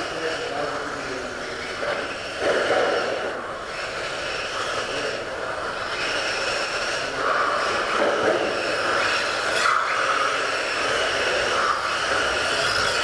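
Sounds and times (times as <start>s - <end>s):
electric rc car motors whining: 0.0s - 13.0s.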